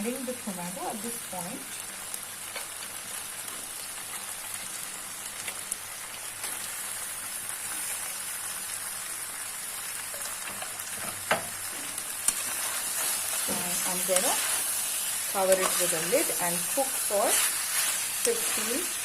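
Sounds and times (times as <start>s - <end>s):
food sizzling in a pan: 0.0s - 19.0s
small crackles: 1.6s - 19.0s.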